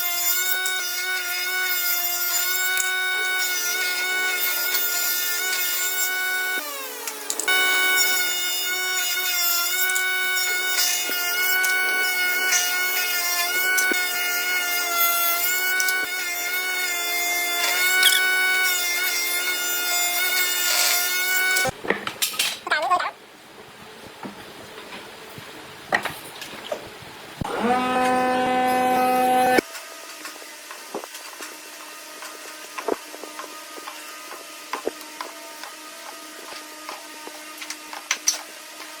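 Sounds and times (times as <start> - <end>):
power tool motor whining: 0.0 - 21.8, 27.4 - 39.0
rasping wood cut: 0.0 - 21.8, 27.4 - 29.7, 30.7 - 39.0.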